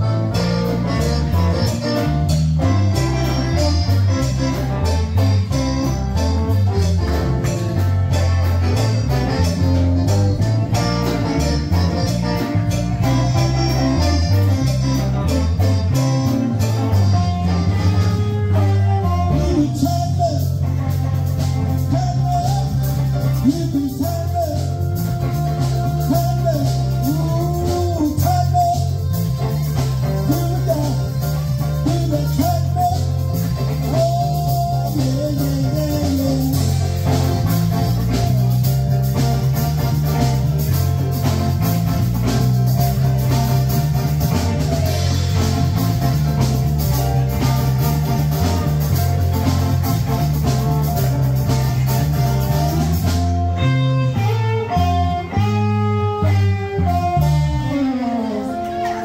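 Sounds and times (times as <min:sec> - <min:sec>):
bass line: 0:00.0 - 0:59.0
drum kit: 0:00.0 - 0:59.0
electric guitar: 0:00.0 - 0:59.0.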